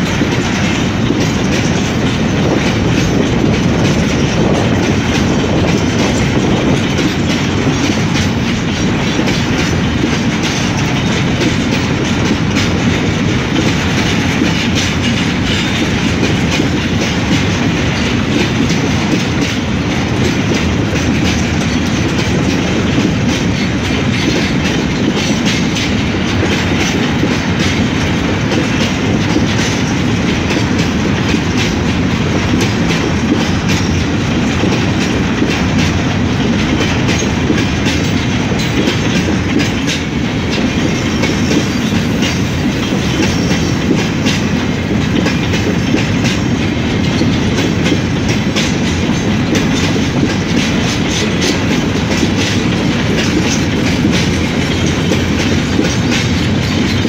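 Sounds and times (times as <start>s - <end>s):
freight train rumbling: 0.0s - 57.0s
train wheels clicking on rail joints: 0.0s - 57.0s.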